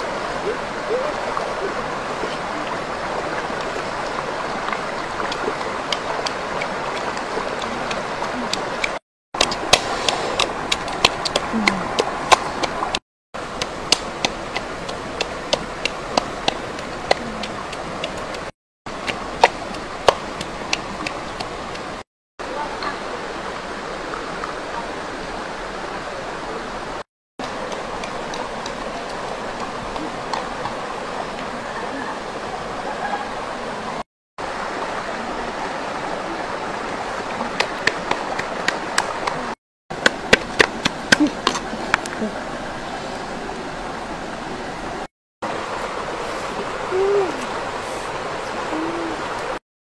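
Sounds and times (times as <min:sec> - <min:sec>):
stream running over rocks: 0:00.0 - 0:49.6.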